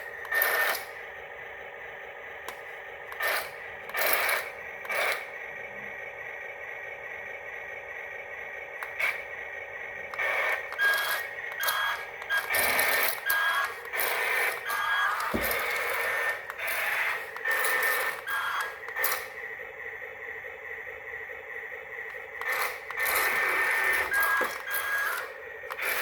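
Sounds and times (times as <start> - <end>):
small electric motors whining: 0.0 - 6.2, 8.6 - 20.5, 21.4 - 26.0.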